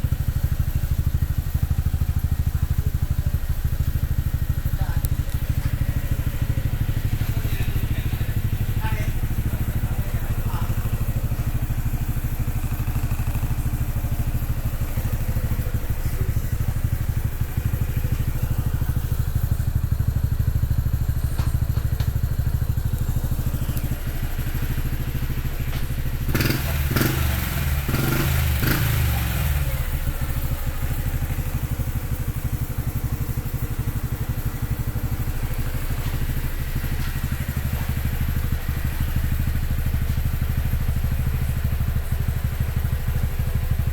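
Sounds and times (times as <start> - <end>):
motorcycle engine idling: 0.0 - 43.9.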